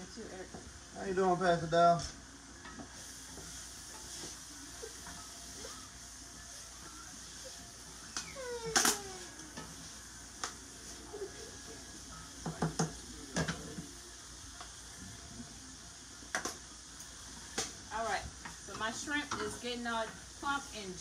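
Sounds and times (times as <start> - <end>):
shrimp sizzling in skillet: 0.0 - 21.0.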